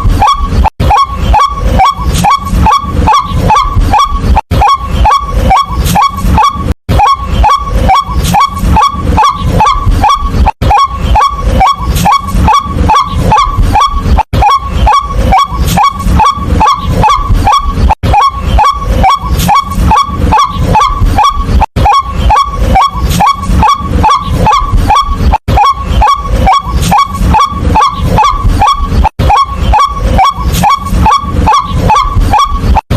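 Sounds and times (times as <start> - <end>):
waterhen calling: 0.0 - 32.8.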